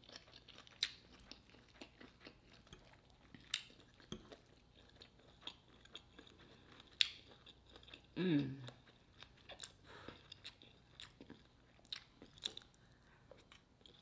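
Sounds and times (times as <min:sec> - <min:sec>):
close chewing mouth sounds: 0:00.0 - 0:14.0.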